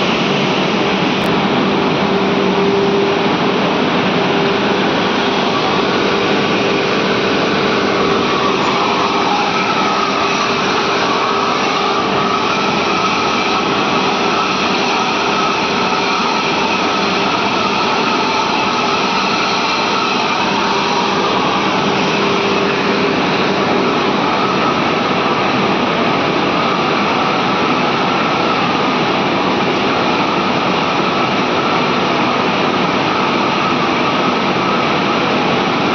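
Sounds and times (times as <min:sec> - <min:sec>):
steam boiler rushing drone: 0:00.0 - 0:35.9.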